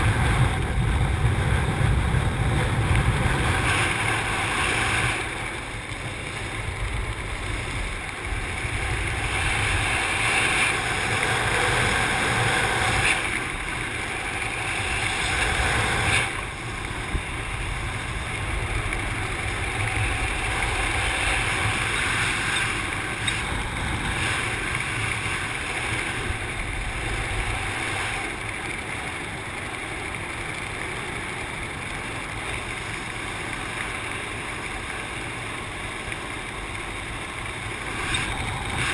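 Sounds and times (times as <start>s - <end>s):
wind rushing on microphone: 0.0s - 29.6s, 36.7s - 38.9s.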